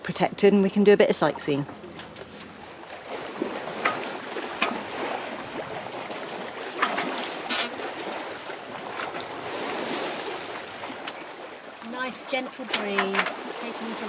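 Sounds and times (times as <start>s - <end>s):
water washing along boat hull: 0.0s - 14.0s.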